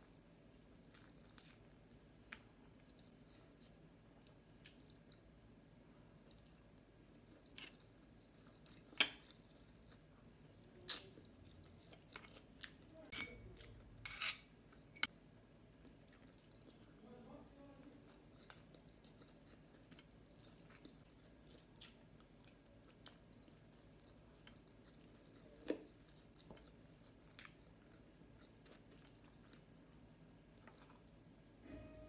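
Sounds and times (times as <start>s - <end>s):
person chewing: 0.0s - 5.4s, 6.0s - 13.9s, 15.8s - 17.0s, 17.9s - 31.2s.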